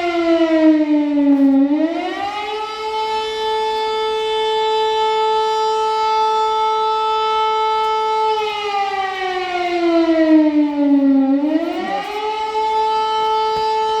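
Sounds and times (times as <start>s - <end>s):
air-raid siren steady tone: 0.0s - 14.0s.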